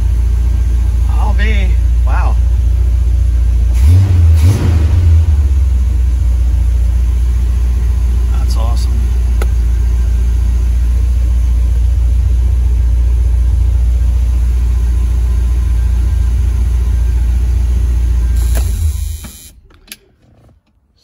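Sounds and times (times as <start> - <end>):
car engine idling: 0.0 - 20.3.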